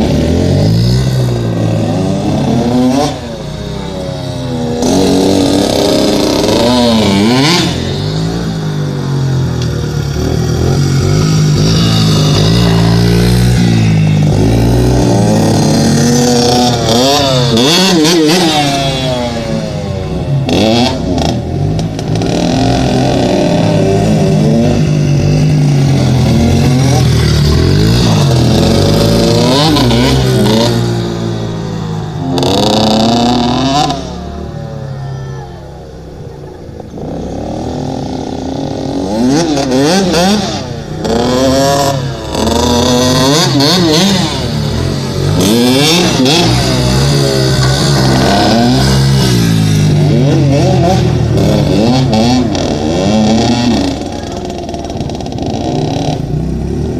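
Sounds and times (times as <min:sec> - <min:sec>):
dirt bike engine revving: 0:00.0 - 0:34.5, 0:36.8 - 0:56.9.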